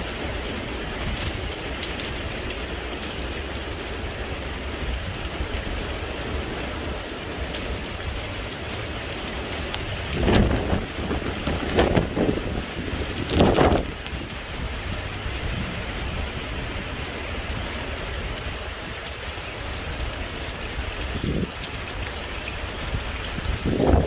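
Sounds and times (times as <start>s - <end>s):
heavy rain: 0.0s - 24.0s
wind rumble on microphone: 0.0s - 24.0s.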